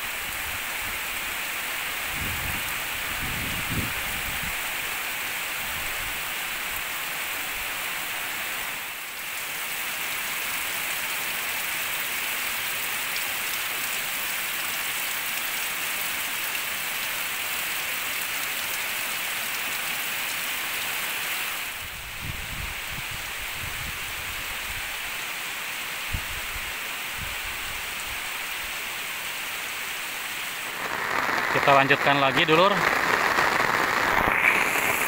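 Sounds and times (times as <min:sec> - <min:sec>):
heavy rain pouring: 0:00.0 - 0:23.4, 0:28.4 - 0:35.0.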